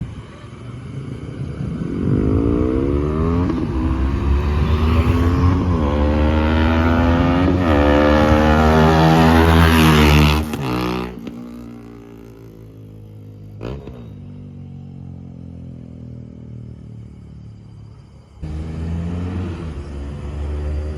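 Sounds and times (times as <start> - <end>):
motorcycle engine accelerating: 1.2 - 17.2, 18.4 - 20.9.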